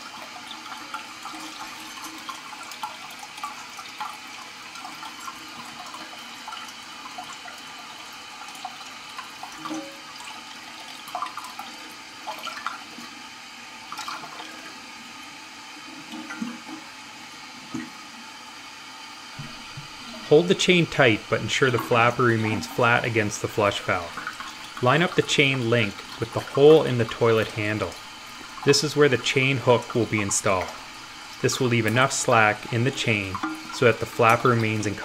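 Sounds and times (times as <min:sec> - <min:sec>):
water hissing from toilet fill valve: 0:00.0 - 0:35.0.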